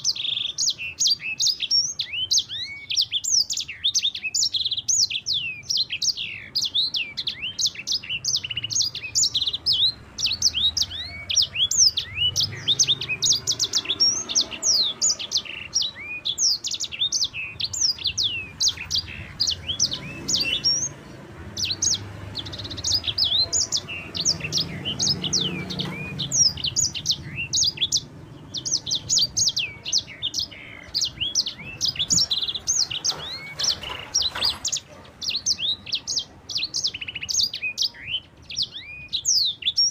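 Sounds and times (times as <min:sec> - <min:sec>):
canary singing rapid chirps: 0:00.0 - 0:39.9.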